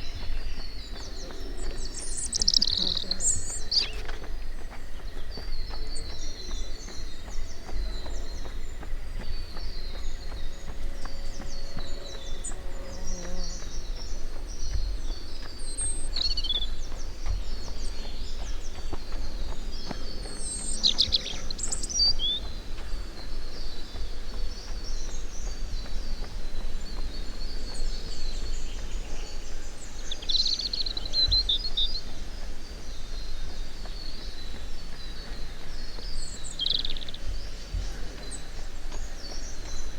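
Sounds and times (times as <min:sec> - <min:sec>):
small birds singing and chirping: 0:00.0 - 0:39.9.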